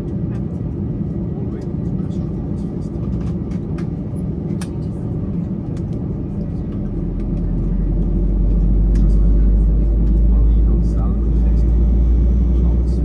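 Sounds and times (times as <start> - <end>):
airliner engines rumbling: 0.0 - 13.0
deep low rumble: 0.0 - 13.0.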